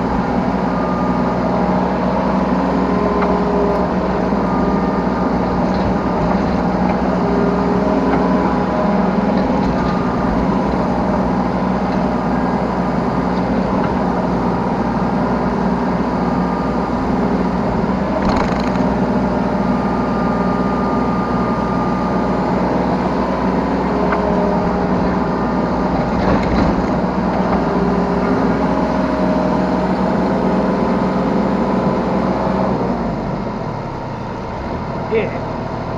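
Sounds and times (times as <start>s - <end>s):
hydraulic whine: 0.0s - 35.0s
excavator diesel engine running: 0.0s - 35.9s.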